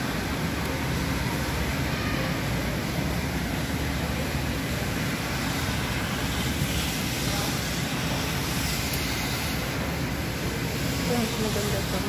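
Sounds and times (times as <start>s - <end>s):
steady rumble and hiss: 0.0s - 12.0s.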